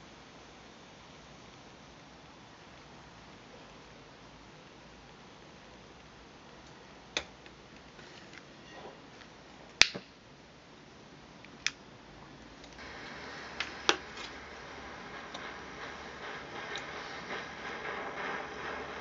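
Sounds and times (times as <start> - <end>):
stove burner hissing: 0.0 - 19.0.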